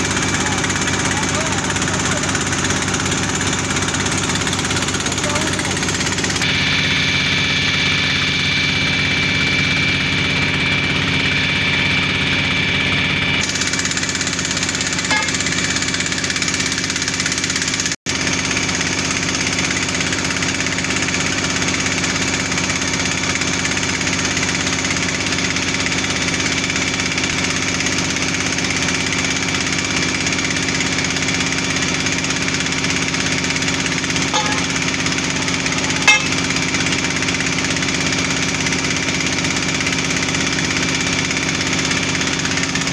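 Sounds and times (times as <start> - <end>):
drilling rig engine running: 0.0 - 42.9.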